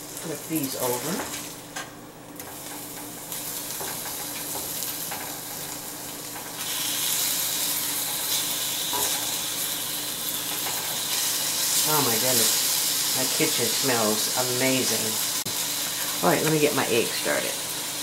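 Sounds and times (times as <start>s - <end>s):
sausages sizzling in a skillet: 0.0s - 18.0s.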